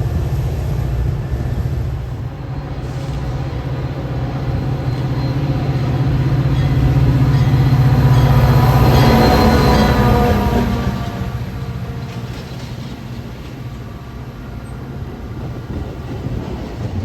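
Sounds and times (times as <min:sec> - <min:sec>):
diesel train rumbling past: 0:00.0 - 0:17.0.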